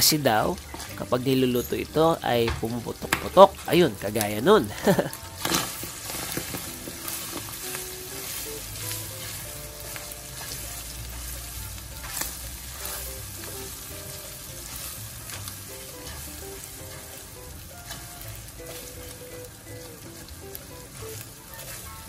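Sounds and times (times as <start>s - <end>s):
meat sizzling in a pan: 0.0s - 22.0s
spatula stirring in a pan: 0.0s - 22.0s.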